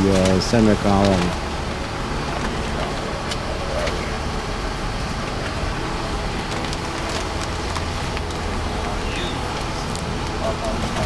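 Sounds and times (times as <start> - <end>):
cockpit ventilation hum: 0.0 - 11.0.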